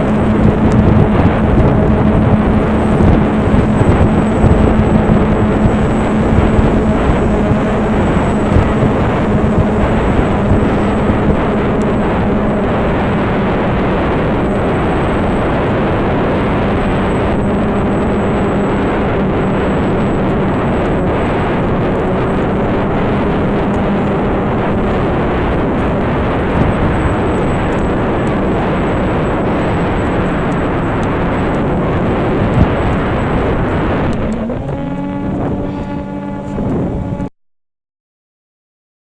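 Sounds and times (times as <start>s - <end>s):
wind buffeting microphone: 0.0s - 37.3s.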